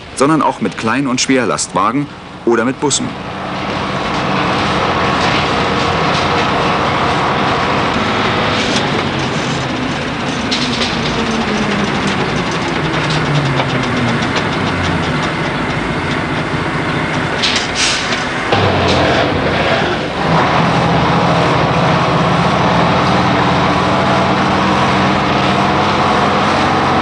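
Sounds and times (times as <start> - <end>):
heavy vehicle engine running: 0.0 - 27.0
rapid clatter: 3.5 - 27.0.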